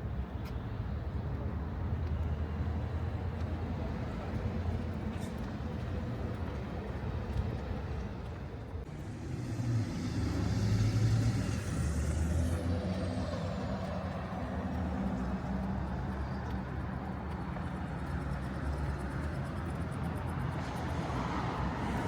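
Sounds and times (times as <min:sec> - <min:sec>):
vehicle engines passing: 0:01.1 - 0:22.0.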